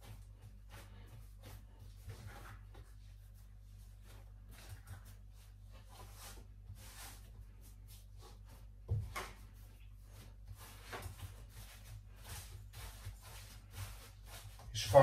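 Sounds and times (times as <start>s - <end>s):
dough being kneaded by hand: 0.0s - 15.0s.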